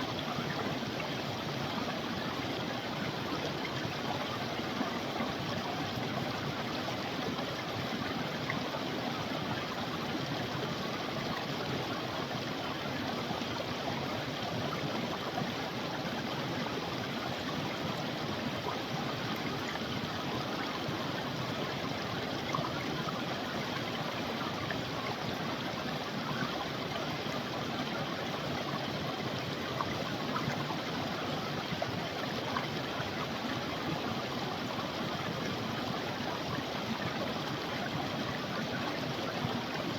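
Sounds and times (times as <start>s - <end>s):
creek flowing over stones: 0.0s - 39.9s.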